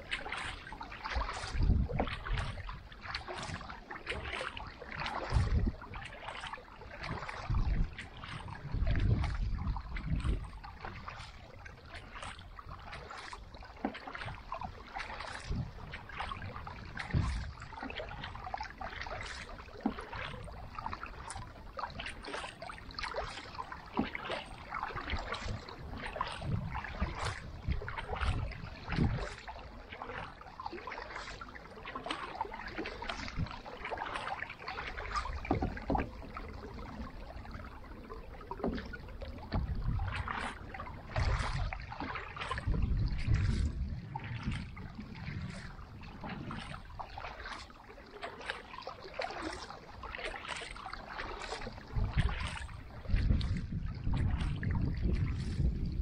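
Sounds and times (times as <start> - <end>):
paddle splashing in water: 0.0 - 56.0
water trickling and dripping: 0.0 - 56.0.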